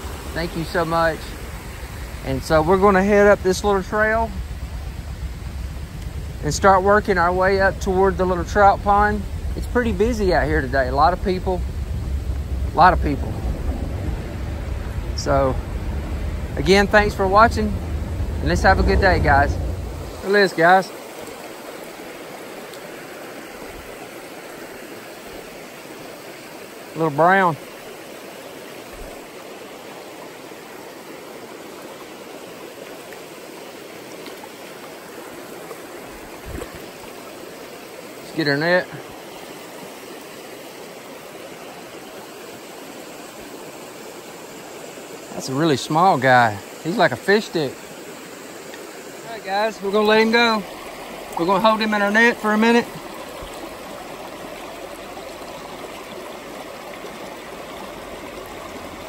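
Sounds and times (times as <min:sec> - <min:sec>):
creek water running: 0:00.0 - 0:59.0.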